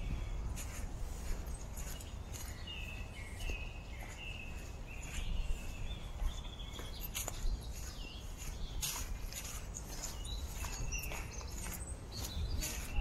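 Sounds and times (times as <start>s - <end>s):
footsteps on dry leaves: 0.0s - 13.0s.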